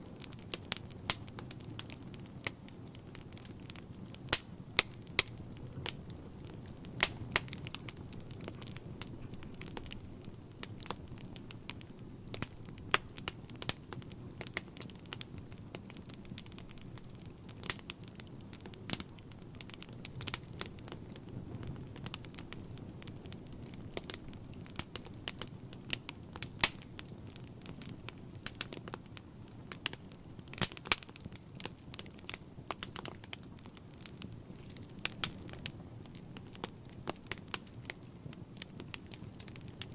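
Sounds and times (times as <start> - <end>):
wood fire crackling in fireplace: 0.0 - 39.9.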